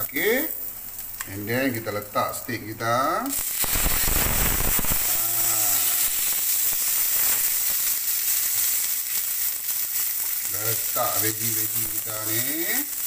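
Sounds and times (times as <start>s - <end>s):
steak sizzling on hot plate: 0.0s - 13.0s.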